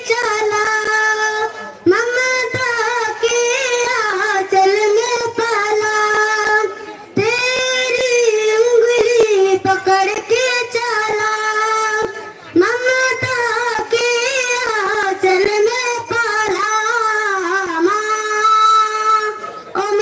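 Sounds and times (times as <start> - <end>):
child singing into a microphone: 0.0 - 20.0.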